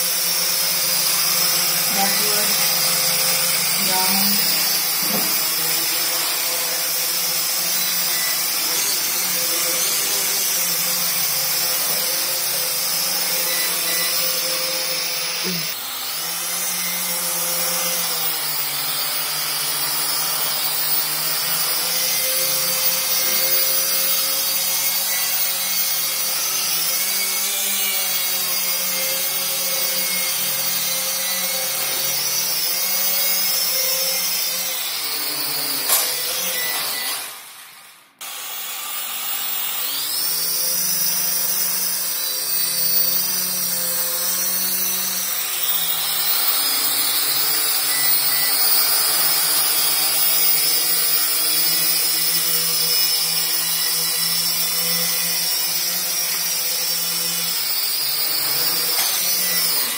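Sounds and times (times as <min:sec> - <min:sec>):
quadcopter propellers whining: 0:00.0 - 0:59.9.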